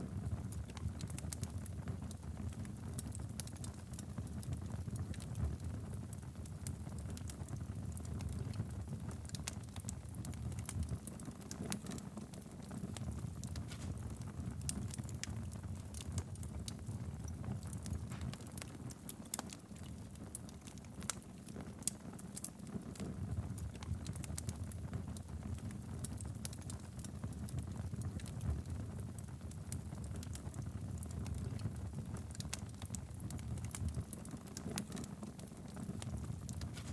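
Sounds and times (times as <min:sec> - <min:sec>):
burning wood crackling and popping: 0:00.0 - 0:36.9
campfire flames rumbling: 0:00.0 - 0:36.9.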